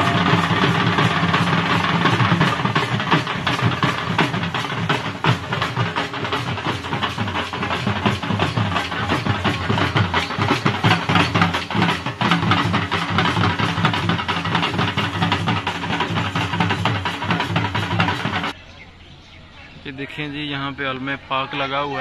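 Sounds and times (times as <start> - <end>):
barrel drums beating fast rhythm: 0.0 - 18.6.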